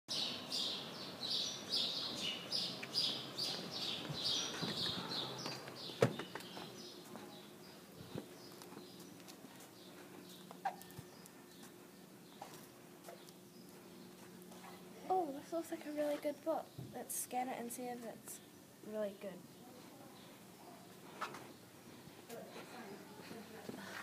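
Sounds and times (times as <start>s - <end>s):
steady low hum: 0.2s - 24.0s.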